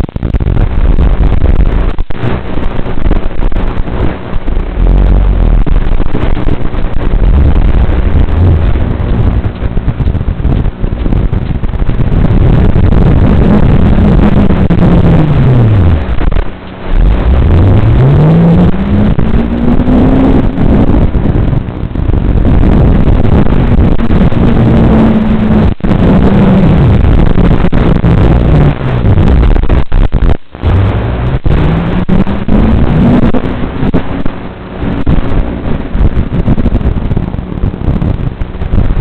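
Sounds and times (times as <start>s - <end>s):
engine running under load: 0.1s - 38.9s.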